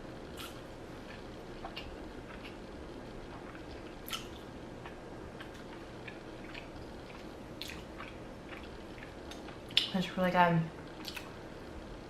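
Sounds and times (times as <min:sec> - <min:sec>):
person chewing food: 0:00.3 - 0:09.9, 0:11.0 - 0:11.4.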